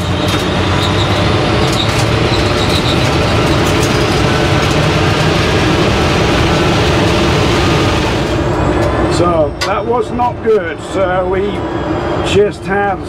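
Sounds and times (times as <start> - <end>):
drivetrain tyre and wind noise: 0.0 - 13.0
electric car accelerating: 0.0 - 13.0.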